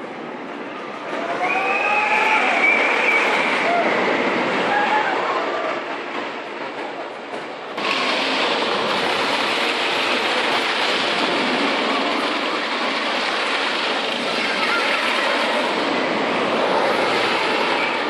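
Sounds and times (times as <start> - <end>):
roller coaster rattling rumble: 0.0 - 18.0.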